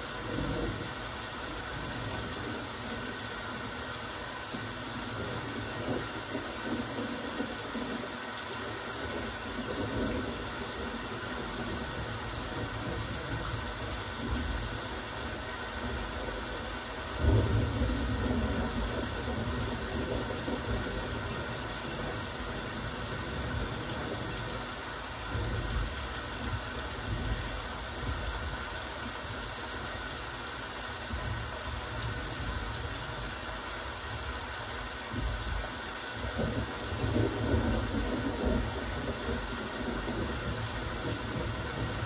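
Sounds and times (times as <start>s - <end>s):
steady rain falling: 0.0s - 42.0s.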